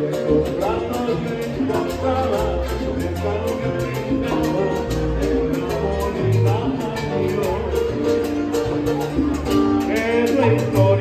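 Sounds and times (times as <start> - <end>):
bass line: 0.0 - 11.0
latin dance band playing: 0.0 - 11.0
quick percussion beat: 0.0 - 11.0.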